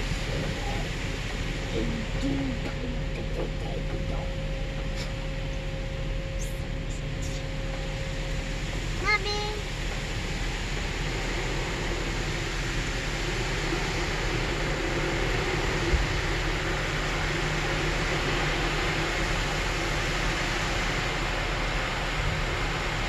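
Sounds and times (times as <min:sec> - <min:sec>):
car wash water spray and machinery: 0:00.0 - 0:23.0.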